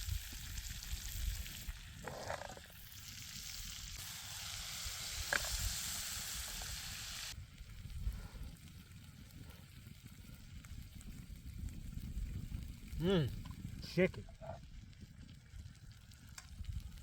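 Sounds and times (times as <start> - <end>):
chicken sizzling in a pan: 0.0 - 14.1.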